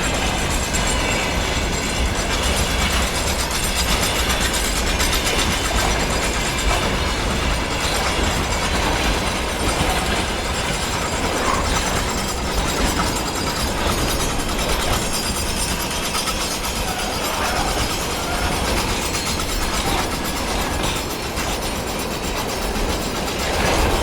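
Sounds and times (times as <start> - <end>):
train rumbling past: 0.0 - 24.0
wheels clicking rapidly: 0.0 - 24.0.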